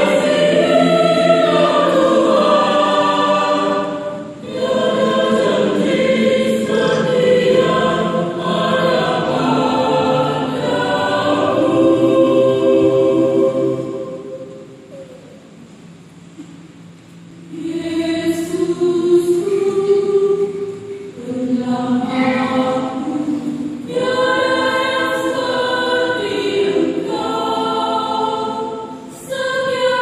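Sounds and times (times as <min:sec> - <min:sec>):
choir singing in harmony: 0:00.0 - 0:14.9, 0:17.3 - 0:30.0.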